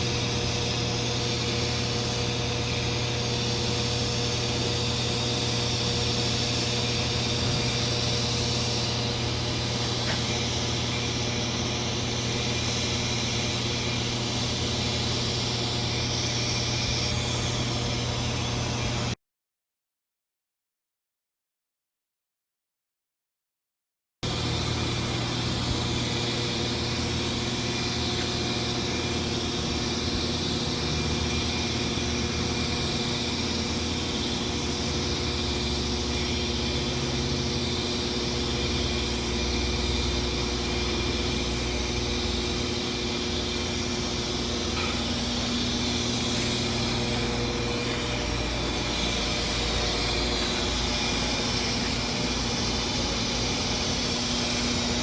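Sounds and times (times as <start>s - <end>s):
machinery hum: 0.0s - 19.2s, 24.2s - 55.0s.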